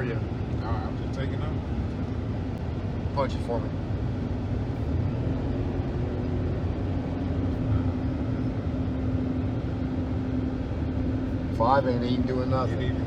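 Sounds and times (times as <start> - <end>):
engine drone under acceleration: 0.0 - 13.0
road noise: 0.0 - 13.0.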